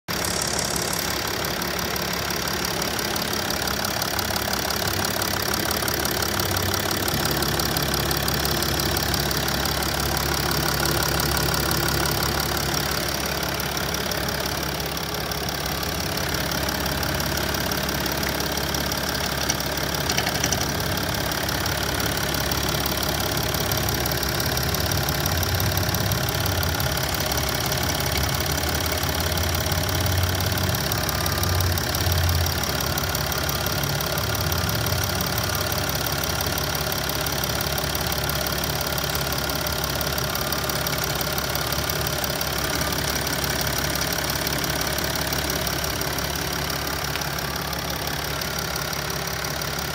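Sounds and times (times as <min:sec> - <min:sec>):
diesel engine idling: 0:00.1 - 0:49.9.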